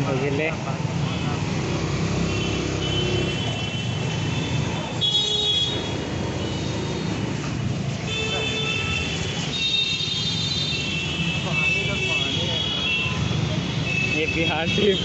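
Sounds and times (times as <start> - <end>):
traffic engine drone: 0.0 - 15.0
vehicle horns honking: 2.3 - 7.4, 8.0 - 15.0.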